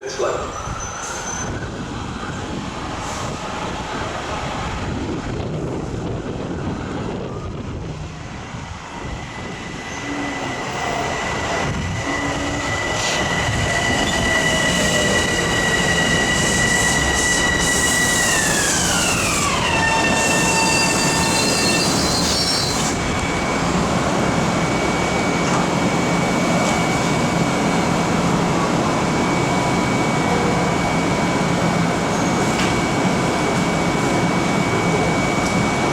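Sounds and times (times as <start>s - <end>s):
train wheel and track noise: 0.0s - 35.9s.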